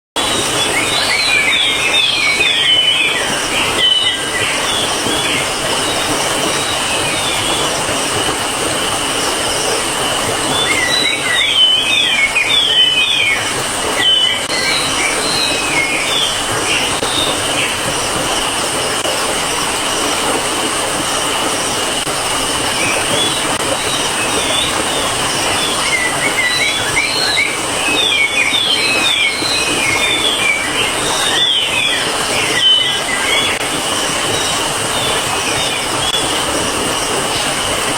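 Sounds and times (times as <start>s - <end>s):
small birds twittering: 0.2s - 20.2s, 22.6s - 37.7s.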